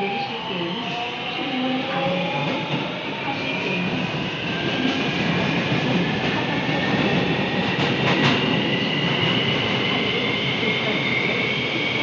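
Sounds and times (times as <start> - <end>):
train wheels rumbling on rails: 1.8 - 12.0.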